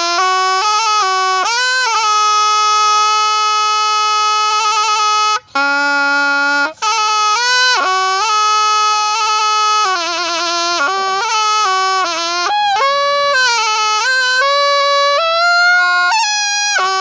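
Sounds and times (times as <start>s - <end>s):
reed oboe melody: 0.0s - 17.0s.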